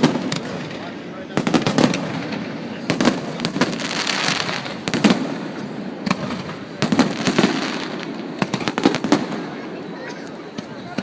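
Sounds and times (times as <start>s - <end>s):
fireworks banging: 0.0s - 11.0s
fireworks crackling and sizzling: 0.0s - 11.0s.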